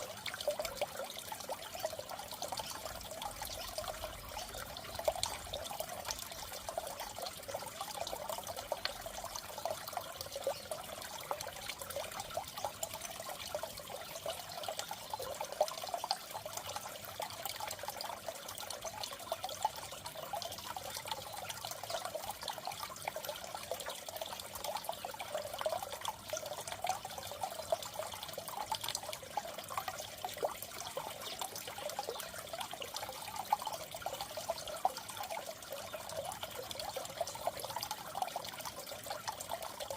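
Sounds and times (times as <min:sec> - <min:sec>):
water trickling in aquarium: 0:00.0 - 0:39.9.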